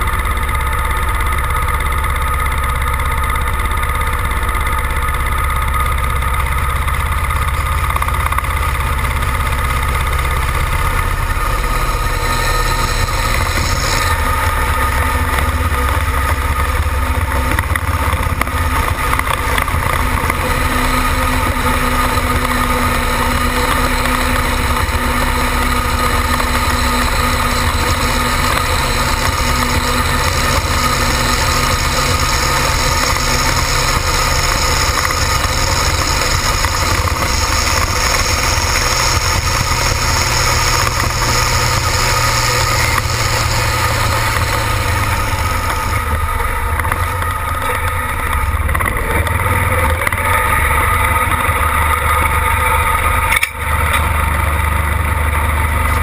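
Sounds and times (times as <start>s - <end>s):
tractor diesel engine running hard: 0.0s - 56.0s.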